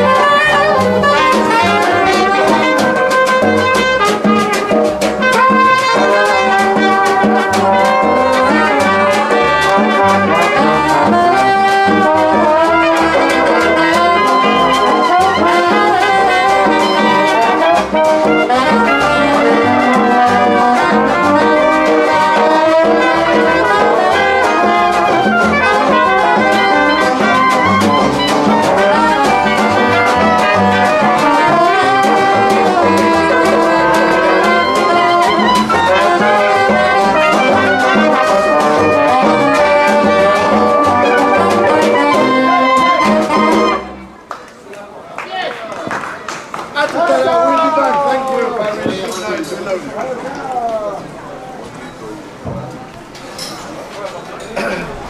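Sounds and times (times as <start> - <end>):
brass band playing: 0.0 - 44.4.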